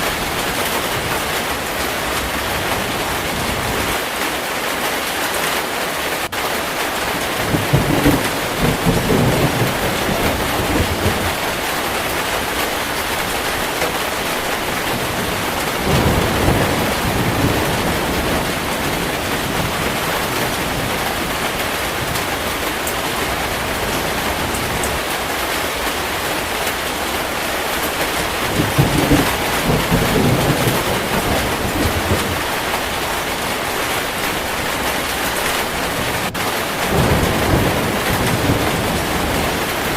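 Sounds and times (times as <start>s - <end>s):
heavy steady rain: 0.0s - 39.9s
thunder rumbling: 6.3s - 39.9s.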